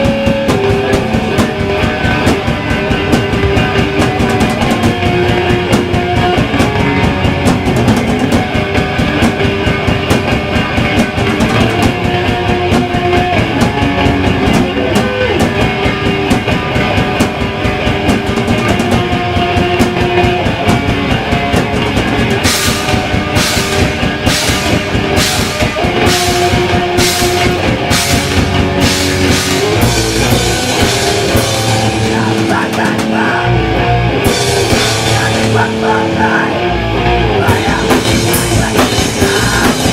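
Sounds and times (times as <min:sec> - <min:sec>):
heavy chugging bass hits: 0:00.0 - 0:39.9
punk band playing live: 0:00.0 - 0:39.9.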